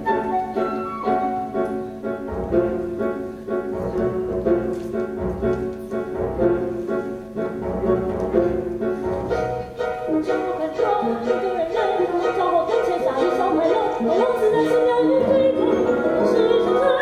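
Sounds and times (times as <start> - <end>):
piano: 0.0 - 17.0.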